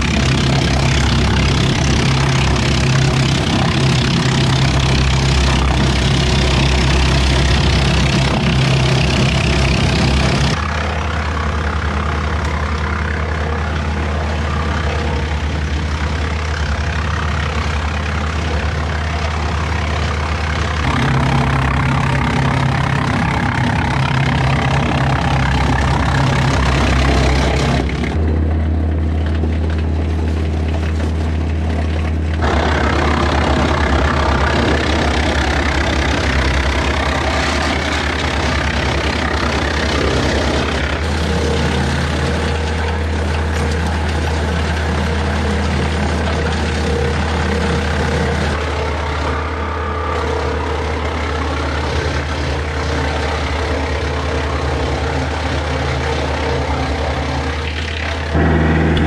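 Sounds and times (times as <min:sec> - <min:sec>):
chipper rotor hum: 0:00.0 - 0:59.0
tractor diesel engine running: 0:00.0 - 0:59.0
wood chipper grinding wood: 0:00.0 - 0:59.0.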